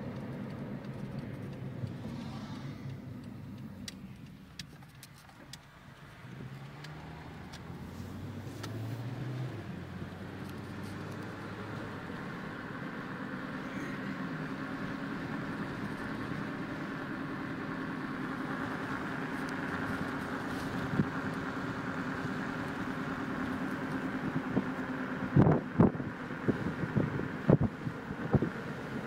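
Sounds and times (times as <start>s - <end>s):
car engine and tyre noise: 0.0s - 29.0s.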